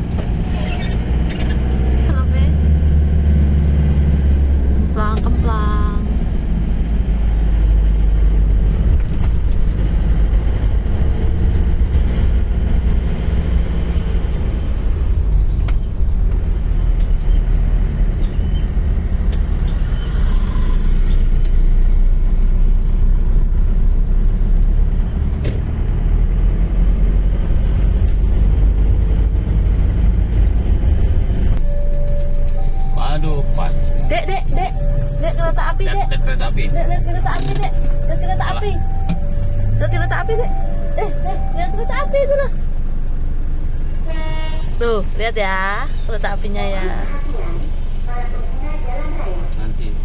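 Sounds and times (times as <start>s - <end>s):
vehicle engine drone and road rumble: 0.0s - 50.0s.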